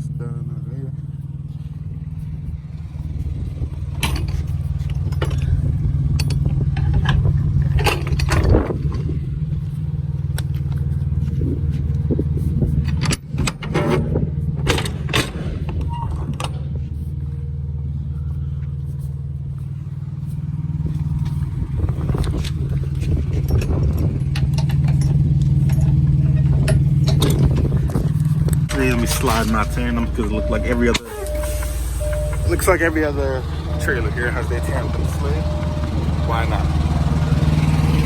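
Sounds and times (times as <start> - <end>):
diesel engine idling: 0.0 - 13.4, 14.1 - 38.0
metallic clanks and rattles: 1.7 - 17.1, 20.2 - 38.0.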